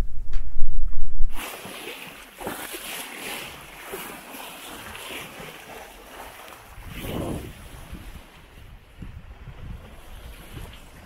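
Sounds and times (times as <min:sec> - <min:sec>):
water rushing along hull: 0:01.3 - 0:11.0.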